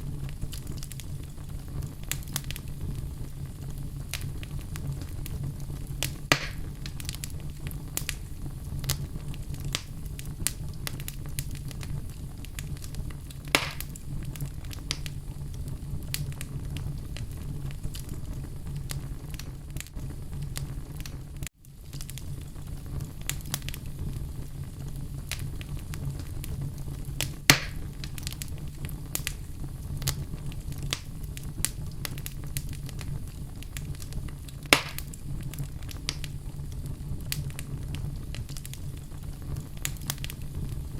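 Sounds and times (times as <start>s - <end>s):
fire crackling: 0.0s - 40.9s
fire flames rumbling: 0.0s - 40.9s
loud fire pops: 0.0s - 40.9s.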